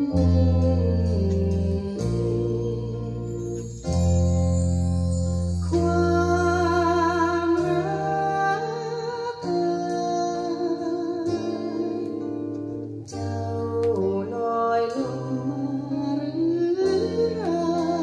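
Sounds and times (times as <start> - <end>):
slow song on vinyl record: 0.0 - 18.0.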